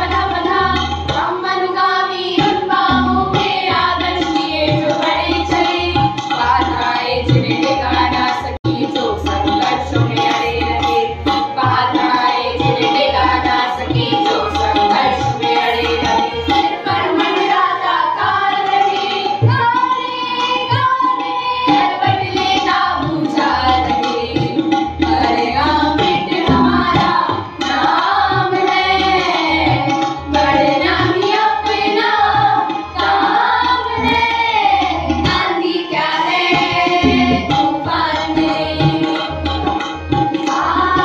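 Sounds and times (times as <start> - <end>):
group singing together: 0.0 - 39.5, 40.4 - 41.0
tabla strokes: 0.0 - 41.0
harmonium holding a note: 7.9 - 41.0.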